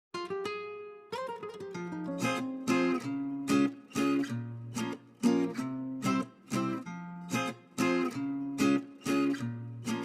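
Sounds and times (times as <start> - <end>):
acoustic guitar strumming chords: 0.2 - 10.0.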